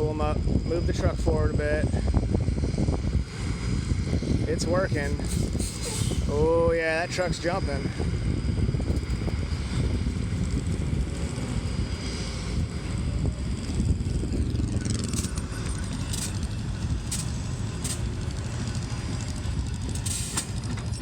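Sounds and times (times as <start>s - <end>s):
diesel truck engine rumble: 0.0s - 21.0s.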